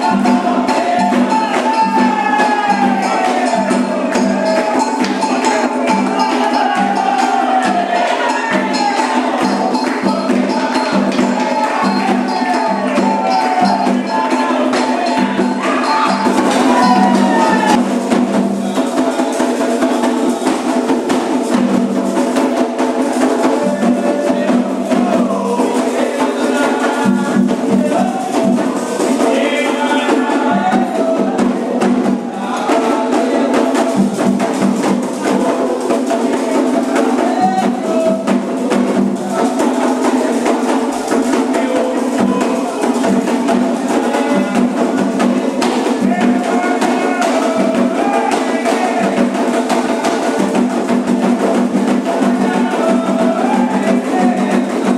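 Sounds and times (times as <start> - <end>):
chanted singing: 0.0 - 54.9
drums and percussion beat: 0.0 - 54.9.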